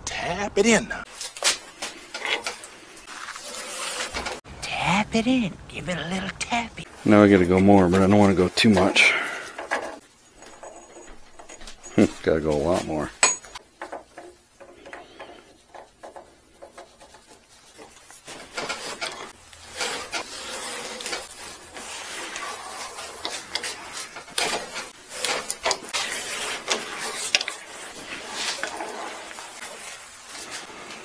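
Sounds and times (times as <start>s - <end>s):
tap scraping threads in metal: 1.2s - 4.4s, 7.2s - 31.0s.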